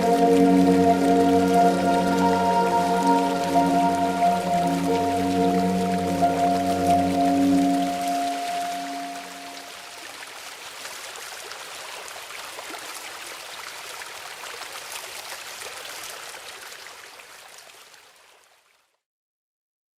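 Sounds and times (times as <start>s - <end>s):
stream babbling over stones: 0.0s - 18.8s.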